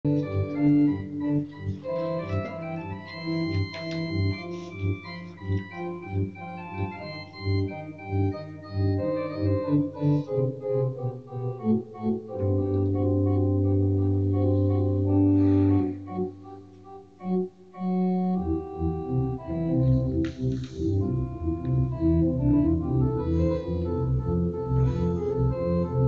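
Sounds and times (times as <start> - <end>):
organ playing chords: 0.0 - 26.0.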